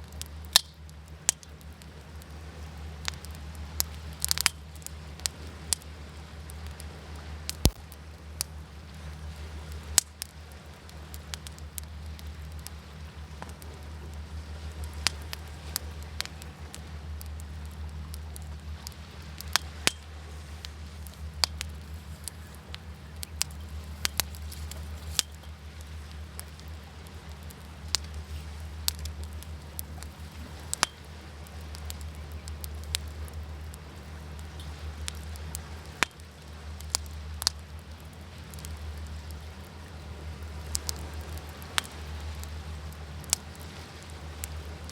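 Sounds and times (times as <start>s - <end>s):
waves rumbling: 0.0s - 44.9s
wood fire crackling: 0.0s - 44.9s.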